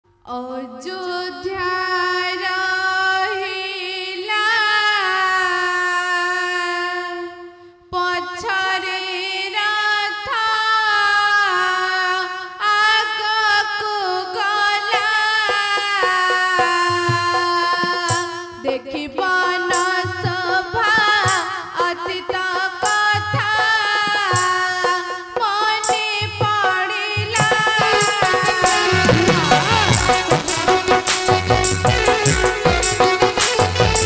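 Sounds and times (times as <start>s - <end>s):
girl singing slow melody: 0.3s - 30.5s.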